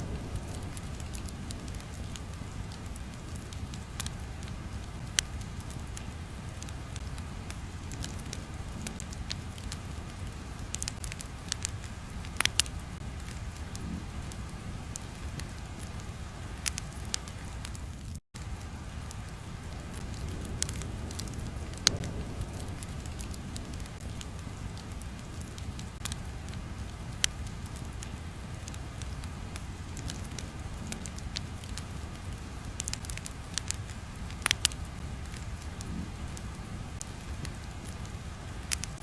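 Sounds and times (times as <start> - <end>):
fire crackles and pops: 0.0 - 39.0
fire low rumble: 0.0 - 39.0.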